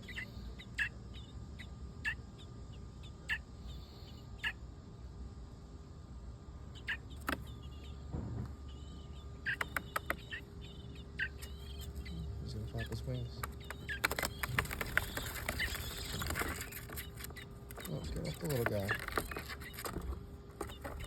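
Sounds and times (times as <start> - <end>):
bird chirping peeps: 0.0 - 21.0.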